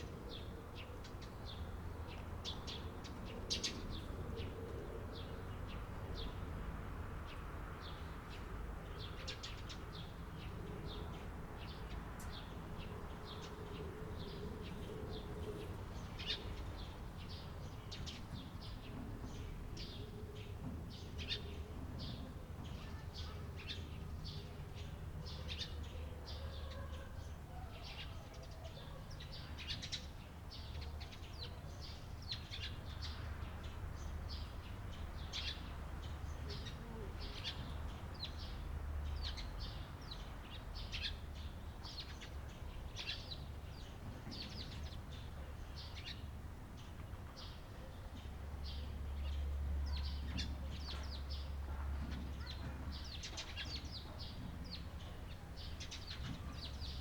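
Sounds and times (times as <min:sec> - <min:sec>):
sparrows chirping: 0:08.9 - 0:57.0.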